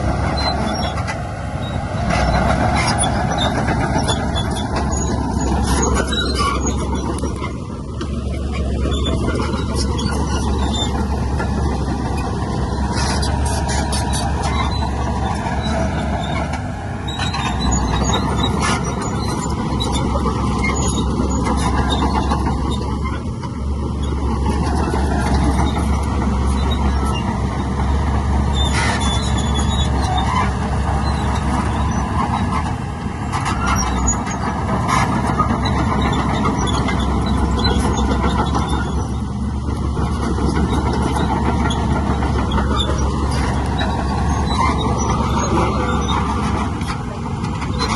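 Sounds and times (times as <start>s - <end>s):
diesel machinery running: 0.0s - 47.9s.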